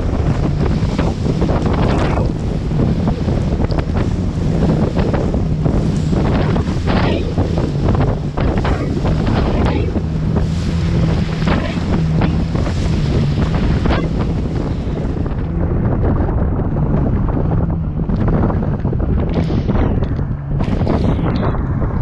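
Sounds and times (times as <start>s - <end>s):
hull slapping water: 0.0s - 22.0s
jet ski engine: 0.0s - 22.0s
wind buffeting microphone: 0.0s - 22.0s.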